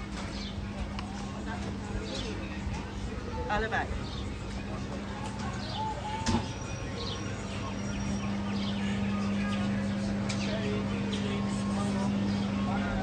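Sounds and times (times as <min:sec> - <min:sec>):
faint voices: 0:00.0 - 0:13.0
small birds chirping: 0:00.0 - 0:13.0
steady low hum: 0:00.0 - 0:13.0.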